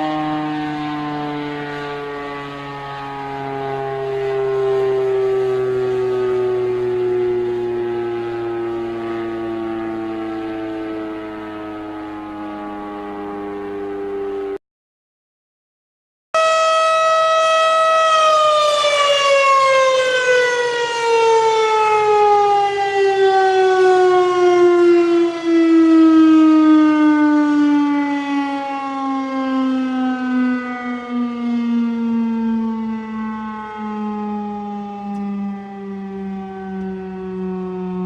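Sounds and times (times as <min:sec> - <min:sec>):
synthesized warning siren: 0:00.0 - 0:14.6, 0:16.4 - 0:38.0.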